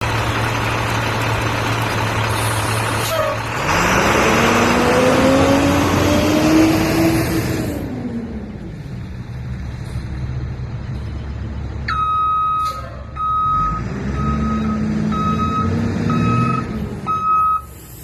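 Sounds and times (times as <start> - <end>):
diesel bus engine idling and revving: 0.0 - 18.0.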